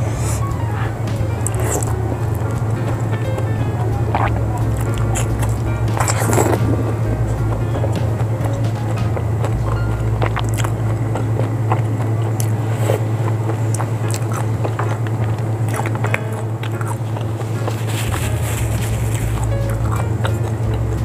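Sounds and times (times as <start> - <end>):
chewing: 0.0 - 21.0
mouth clicks: 0.0 - 21.0
steady low hum: 0.0 - 21.0.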